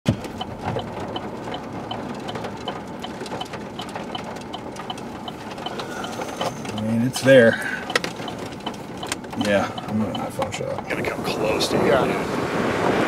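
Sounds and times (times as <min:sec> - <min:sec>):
wind: 0:00.0 - 0:13.0
steady ticking: 0:00.1 - 0:11.1.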